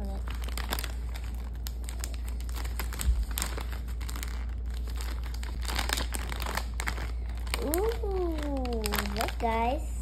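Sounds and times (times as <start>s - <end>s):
plastic snack bag crinkling: 0.0s - 9.9s.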